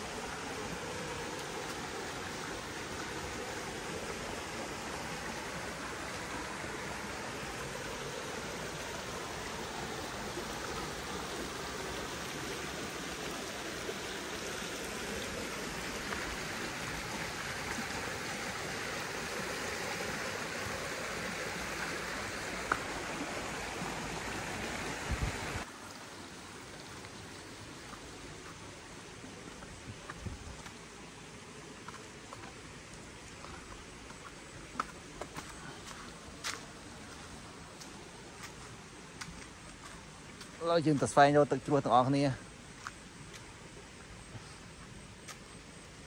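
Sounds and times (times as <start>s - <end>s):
creek water over stones: 0.0s - 46.0s.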